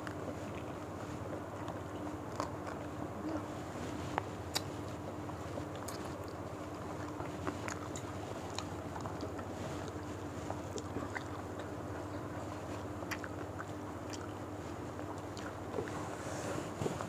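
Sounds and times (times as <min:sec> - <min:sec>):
low background hum: 0:00.0 - 0:17.0
people eating and chewing: 0:00.0 - 0:17.0.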